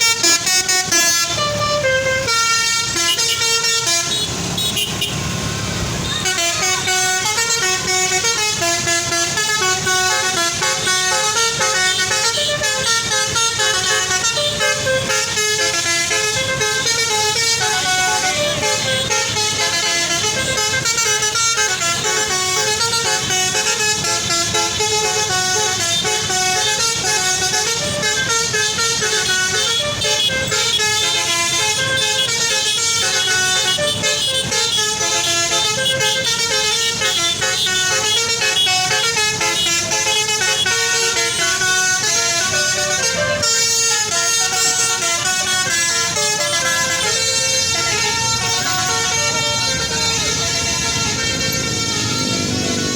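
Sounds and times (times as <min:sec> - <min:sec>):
multi-trumpet air horn tune: 0:00.0 - 0:05.3, 0:06.0 - 0:52.9
bus on the road: 0:00.0 - 0:52.9.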